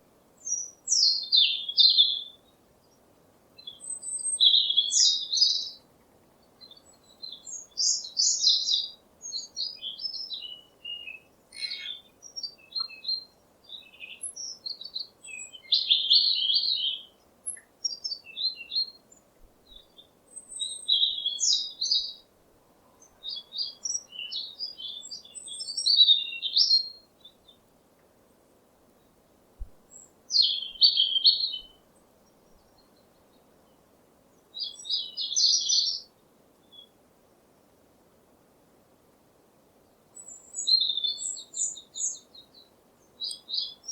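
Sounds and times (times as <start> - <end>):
faint background hiss: 0.0 - 43.9
songbird chirping and singing: 0.4 - 3.0, 3.6 - 27.6, 29.0 - 36.9, 40.1 - 43.9.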